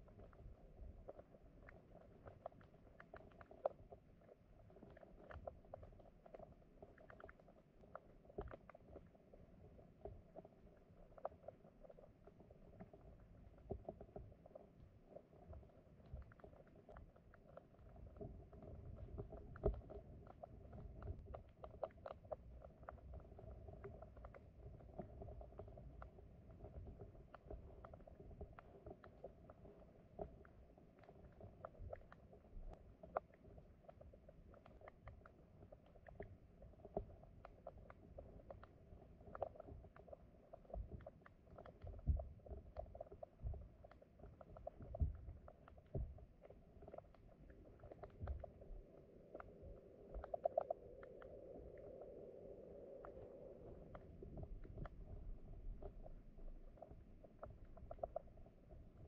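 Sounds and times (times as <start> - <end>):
small clicks and ticks: 0.0 - 59.0
underwater stream rumble: 0.0 - 59.0.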